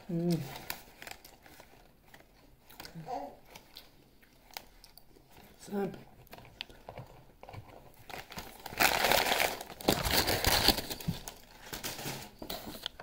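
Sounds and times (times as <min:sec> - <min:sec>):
paper crinkling and crumpling: 0:00.0 - 0:13.0.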